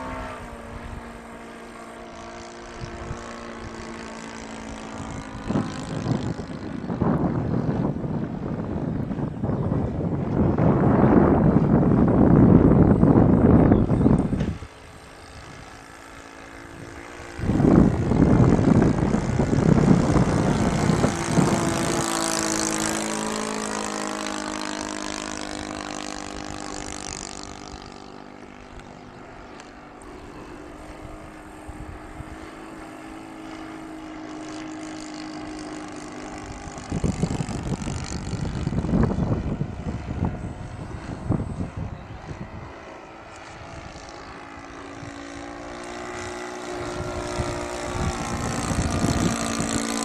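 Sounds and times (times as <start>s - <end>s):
propeller aircraft engine drone: 0.0s - 50.0s
wind buffeting microphone: 0.0s - 50.0s.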